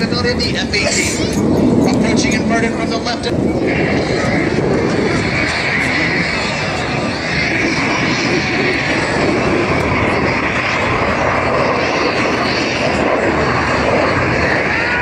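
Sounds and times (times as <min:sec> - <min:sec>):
jets flying overhead: 0:00.0 - 0:15.0.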